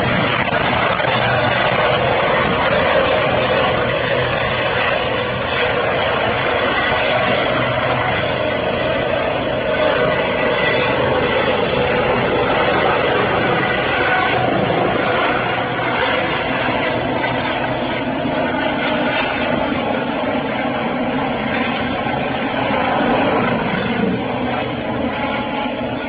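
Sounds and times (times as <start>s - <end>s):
helicopter flying past: 0.0s - 26.0s.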